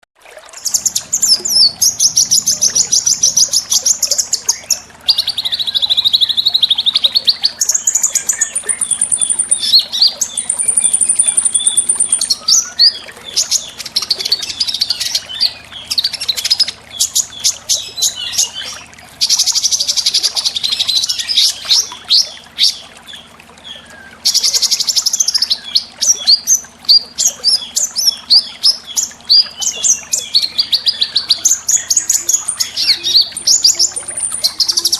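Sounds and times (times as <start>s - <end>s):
songbirds chirping and trilling: 0.5s - 34.9s.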